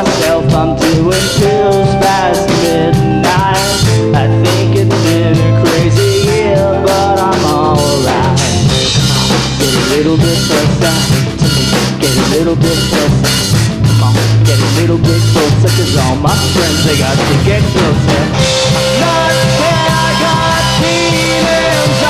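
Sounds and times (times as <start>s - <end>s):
drum kit: 0.0s - 22.0s
electric bass line: 0.0s - 22.0s
electric guitars: 0.0s - 22.0s
man singing: 0.0s - 22.0s.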